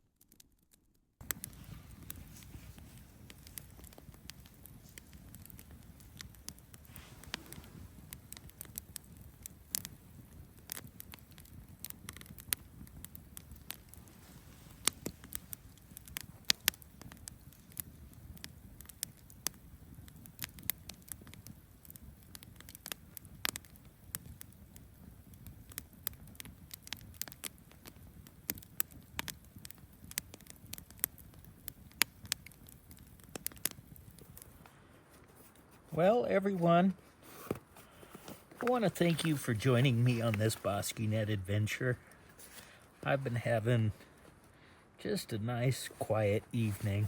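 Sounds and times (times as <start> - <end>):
campfire crackling and popping: 0.2 - 47.0
low rush of flames: 1.2 - 47.0.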